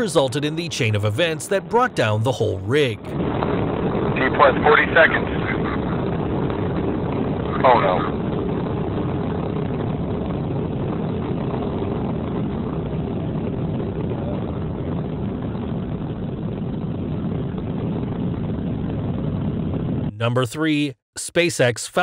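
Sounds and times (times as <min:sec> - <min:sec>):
deep rumbling rocket roar: 0:00.0 - 0:20.5.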